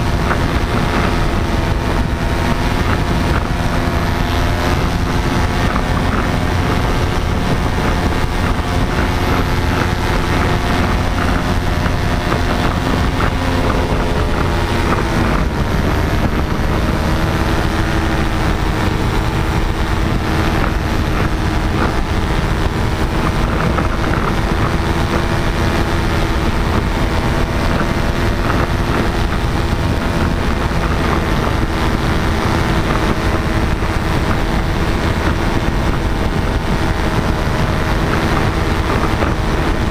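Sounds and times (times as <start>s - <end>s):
paramotor engine and propeller: 0.0s - 39.9s
wind on microphone: 0.0s - 39.9s.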